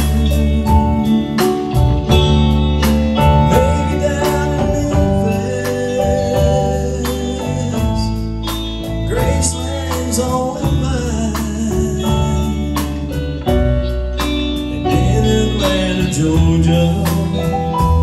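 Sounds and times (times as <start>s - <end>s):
drum kit beat: 0.0s - 18.0s
electric bass: 0.0s - 18.0s
electric guitars: 0.0s - 18.0s
keyboard: 0.0s - 18.0s.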